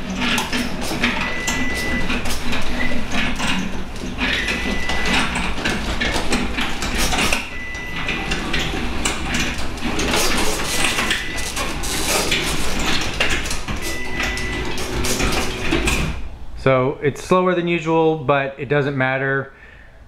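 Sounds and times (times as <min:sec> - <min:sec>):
garage door rattling: 0:00.0 - 0:16.6
garage door opener rumbling: 0:00.0 - 0:16.7.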